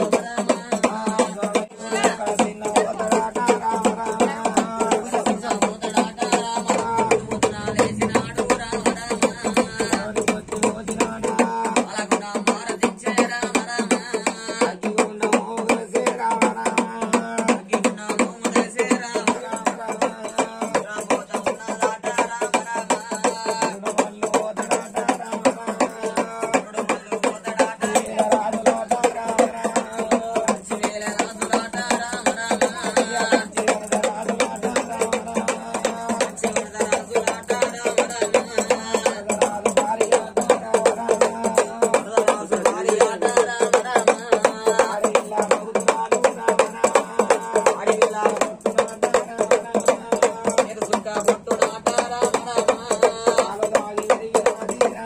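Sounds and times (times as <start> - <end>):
fast drumming and percussion: 0.0 - 55.0
person singing: 0.0 - 55.0.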